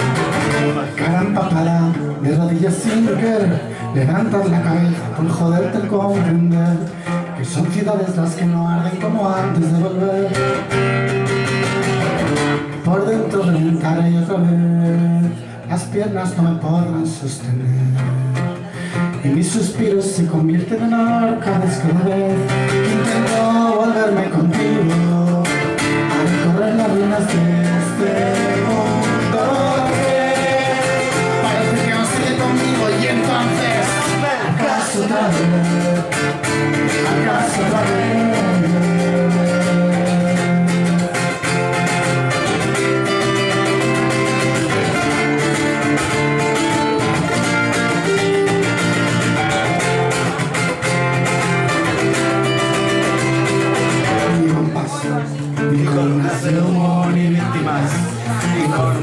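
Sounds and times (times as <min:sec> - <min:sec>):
man singing: 0:00.0 - 0:11.8, 0:12.6 - 0:50.4, 0:51.2 - 0:59.0
acoustic guitar strummed: 0:00.0 - 0:59.0.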